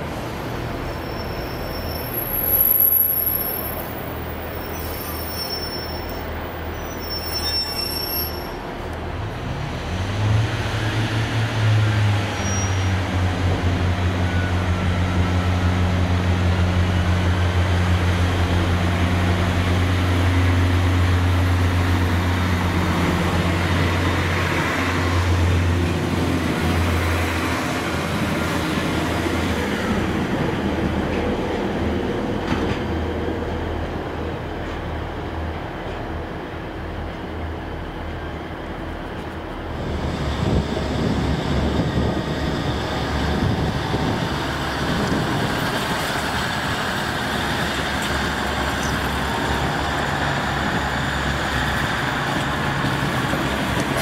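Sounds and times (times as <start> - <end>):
train engine droning: 0.0 - 54.0.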